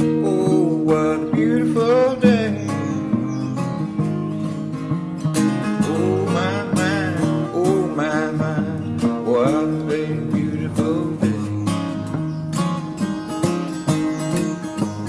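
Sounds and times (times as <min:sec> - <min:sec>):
bending melody line: 0:00.0 - 0:15.0
strummed acoustic guitar: 0:00.0 - 0:15.0.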